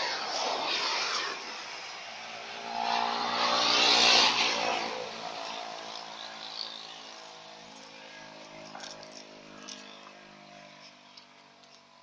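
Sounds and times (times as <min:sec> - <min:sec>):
vehicle passing by: 0:00.0 - 0:11.5
vehicle engine running: 0:01.4 - 0:12.0.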